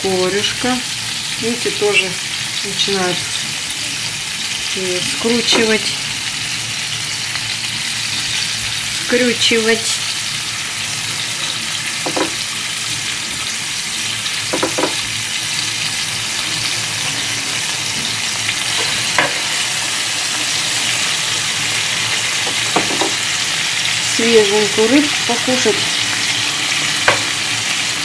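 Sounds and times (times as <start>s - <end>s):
fish sizzling in oil: 0.0s - 28.0s.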